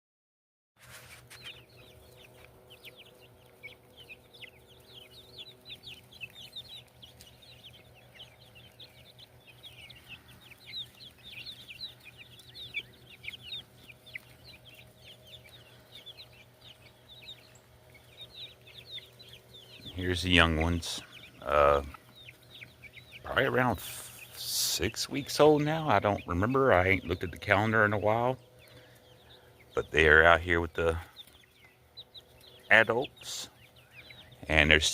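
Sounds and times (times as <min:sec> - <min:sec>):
chickens clucking and peeping: 0:00.8 - 0:34.9
steady low hum: 0:01.5 - 0:34.9.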